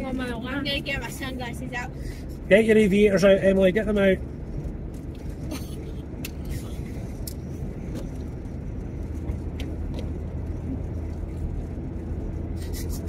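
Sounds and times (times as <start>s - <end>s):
engine and road drone in cabin: 0.0s - 13.0s.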